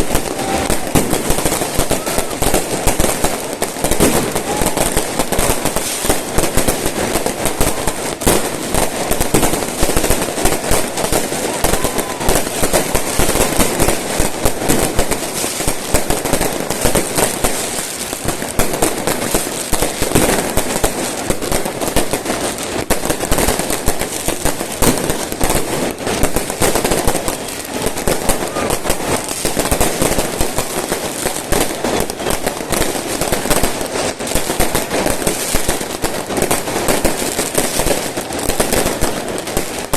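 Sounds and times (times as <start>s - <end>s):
fireworks crackling bangs: 0.0s - 39.9s.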